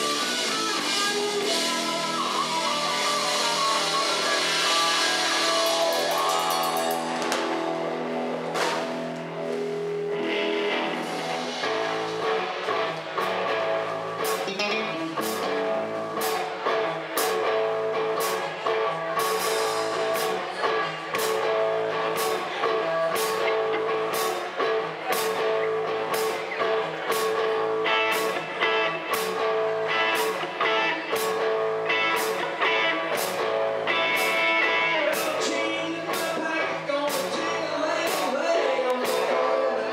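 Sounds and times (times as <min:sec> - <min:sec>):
drums and cymbals: 0:00.0 - 0:39.6
bass guitar: 0:00.0 - 0:39.9
electric guitar: 0:00.0 - 0:39.9.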